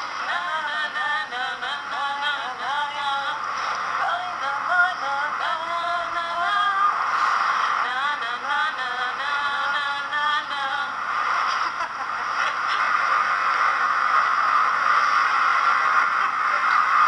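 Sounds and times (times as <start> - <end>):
steady noisy hiss: 0.0 - 17.0.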